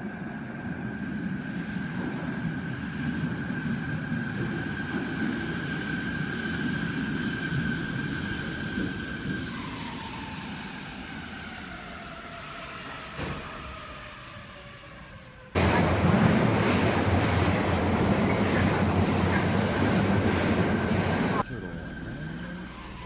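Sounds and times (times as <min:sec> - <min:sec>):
subway train rumble: 0:00.0 - 0:23.0.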